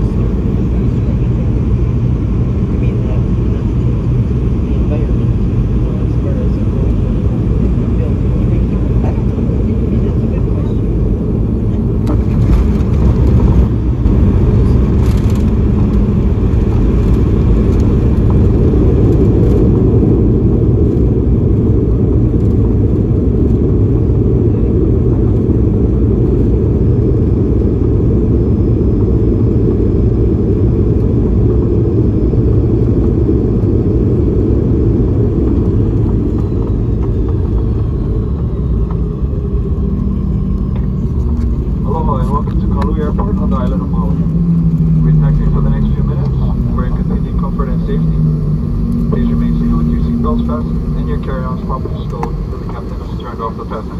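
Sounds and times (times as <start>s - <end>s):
airliner cabin low rumble: 0.0s - 53.9s.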